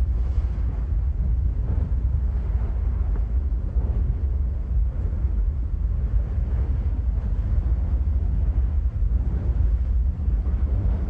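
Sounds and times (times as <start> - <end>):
lava fountains rumbling roar: 0.0 - 11.0.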